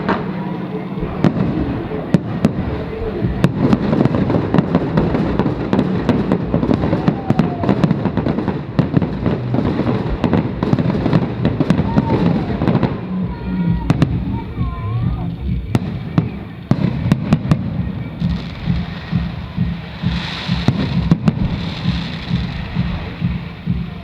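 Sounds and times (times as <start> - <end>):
fireworks bangs and crackles: 0.0 - 24.0
steady rumble: 0.0 - 24.0.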